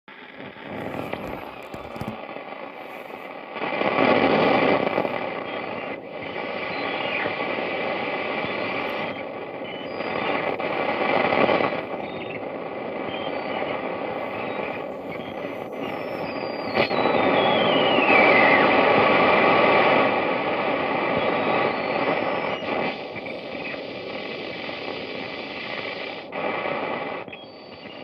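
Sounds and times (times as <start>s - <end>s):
harsh electronic noise hiss: 0.1s - 28.0s.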